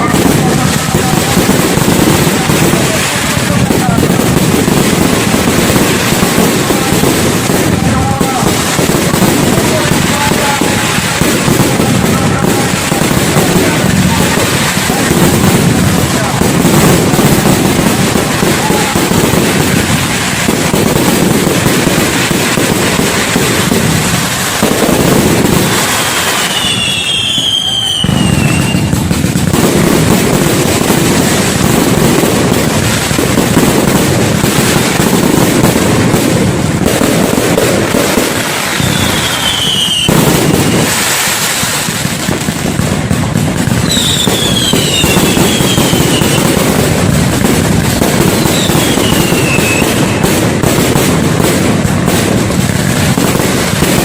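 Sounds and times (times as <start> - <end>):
fireworks bangs and crackle: 0.0 - 54.0
fireworks whistles falling in pitch: 0.0 - 54.0.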